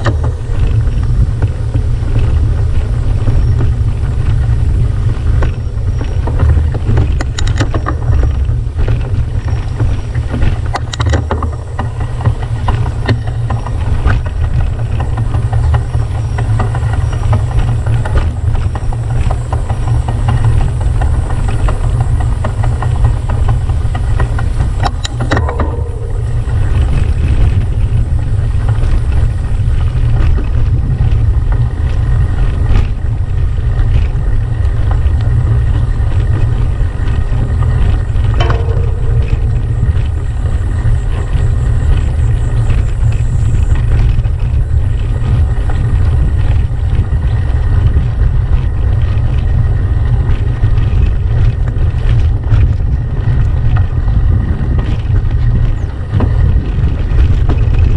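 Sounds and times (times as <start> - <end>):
bike tyres and frame rattling: 0.0 - 57.9
wind buffeting microphone: 0.0 - 57.9.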